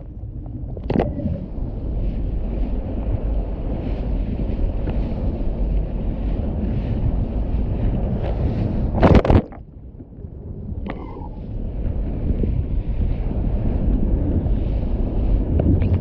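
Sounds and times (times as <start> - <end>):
steady low rumble: 0.0 - 16.0
wind buffeting microphone: 0.0 - 16.0.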